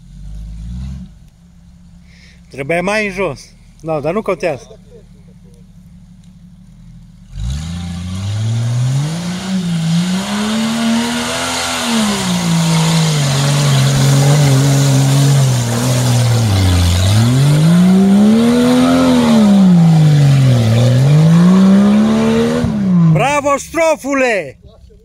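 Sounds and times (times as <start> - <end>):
engine revving off-road: 0.0 - 23.5.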